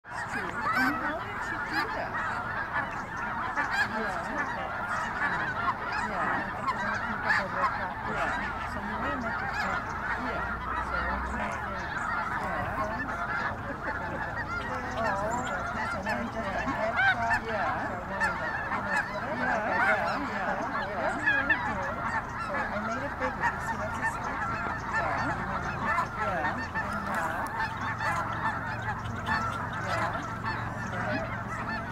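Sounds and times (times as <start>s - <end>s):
flock of geese honking: 0.0s - 31.9s.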